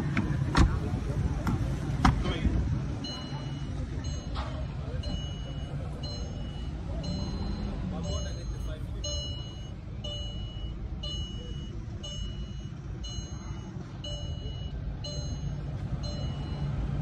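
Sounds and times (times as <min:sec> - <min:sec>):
steady low rumble: 0:00.0 - 0:17.0
vehicle warning beeps: 0:02.9 - 0:17.0.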